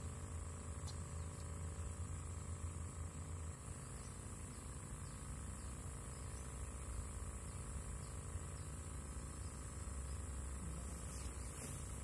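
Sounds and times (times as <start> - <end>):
faint chirps: 0.0 - 12.0
insects droning: 0.0 - 12.0
low steady rumble: 0.0 - 12.0.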